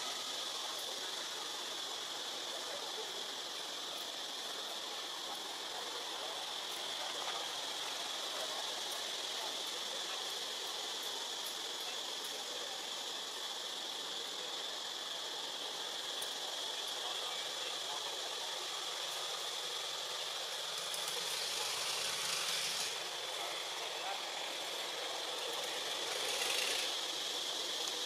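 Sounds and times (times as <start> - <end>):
even hiss: 0.0 - 28.0.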